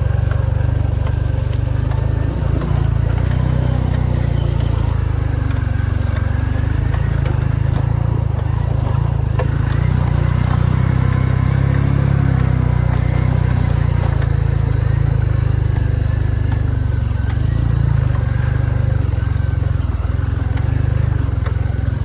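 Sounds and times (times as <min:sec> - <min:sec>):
motorbike engine rumble: 0:00.0 - 0:22.0.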